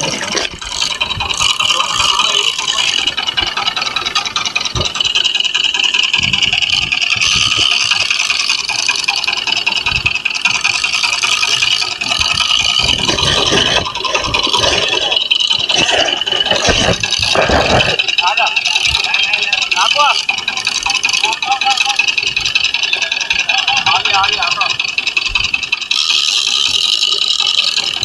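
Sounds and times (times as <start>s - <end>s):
boat engine running: 0.0s - 28.0s
knocks and rattles: 0.0s - 28.0s
water and hull noise: 0.0s - 28.0s.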